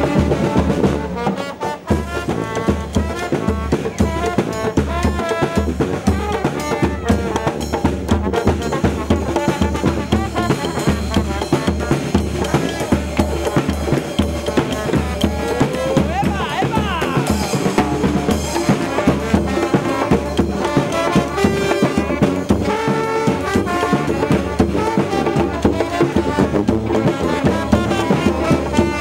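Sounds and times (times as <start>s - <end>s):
brass band playing: 0.0s - 29.0s
steady drum beat: 0.0s - 29.0s.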